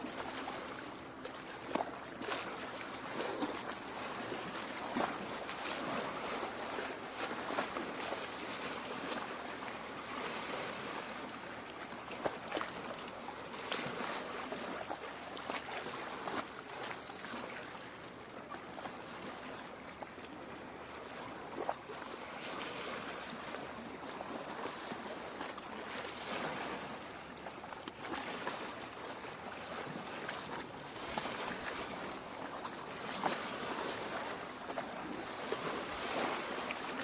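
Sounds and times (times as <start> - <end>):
small waves lapping: 0.0 - 37.0
water splashes and gurgles: 0.0 - 37.0.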